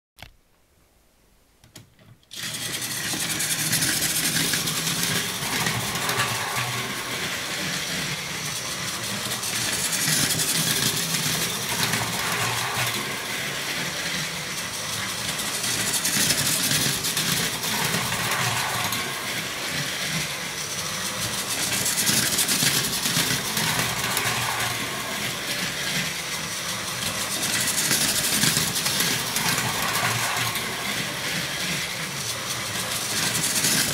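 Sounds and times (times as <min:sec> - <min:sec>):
plastic wheels rattling on track: 0:02.3 - 0:33.9
toy train motor whirring: 0:02.3 - 0:33.9.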